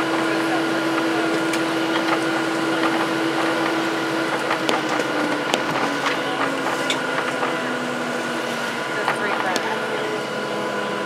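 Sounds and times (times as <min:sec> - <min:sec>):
jet engines idling in cabin: 0:00.0 - 0:11.0.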